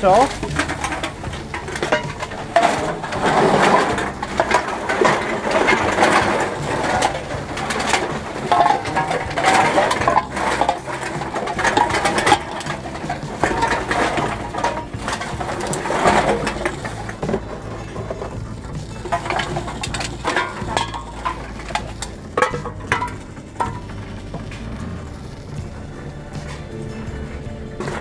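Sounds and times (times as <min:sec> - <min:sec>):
drink containers clattering into machine: 0:00.0 - 0:28.0.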